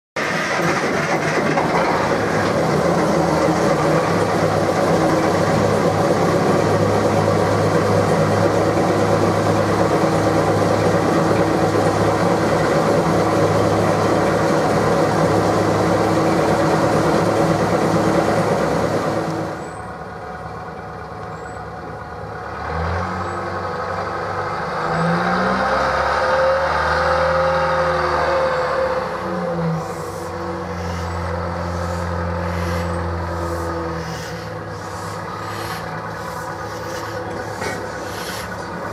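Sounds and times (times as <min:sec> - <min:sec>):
diesel locomotive engine running: 0:00.2 - 0:38.9.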